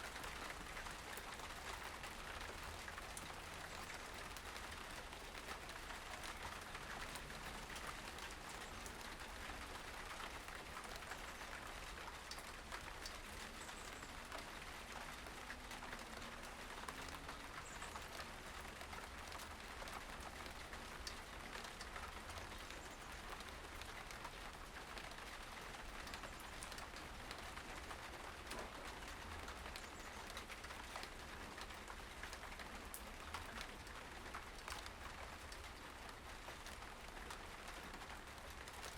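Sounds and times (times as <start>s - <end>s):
light rain patter: 0.0s - 38.9s.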